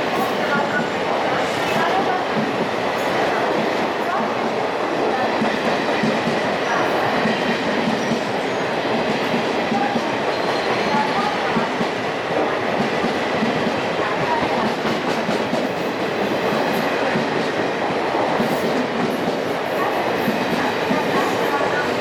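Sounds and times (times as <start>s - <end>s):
train wheels running on rails: 0.0s - 22.0s.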